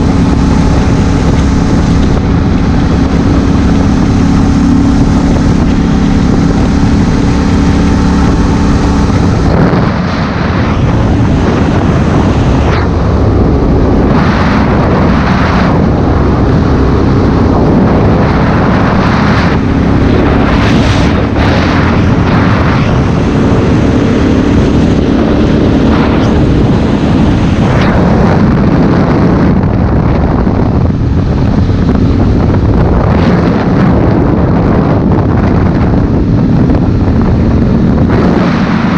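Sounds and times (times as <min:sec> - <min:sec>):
motorcycle engine running: 0:00.0 - 0:38.9
wind buffeting on camera: 0:00.0 - 0:38.9.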